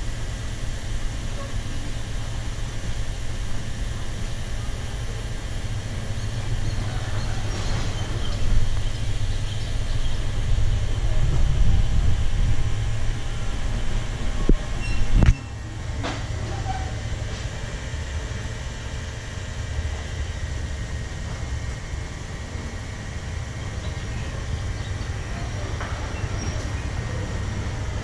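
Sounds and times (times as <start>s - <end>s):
locomotive engine idling: 0.0s - 28.0s.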